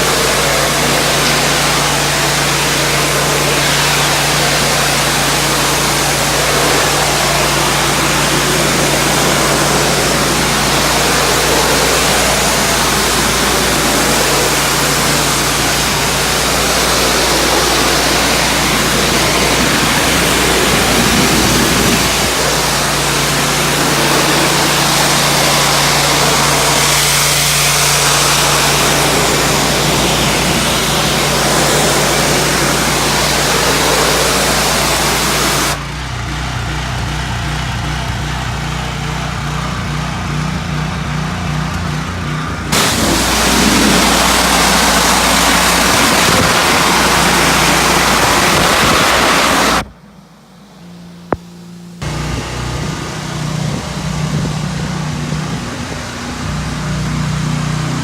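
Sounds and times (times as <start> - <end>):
water spraying onto concrete: 0.0 - 49.9, 51.2 - 58.0
pressure washer motor hum: 0.0 - 58.0.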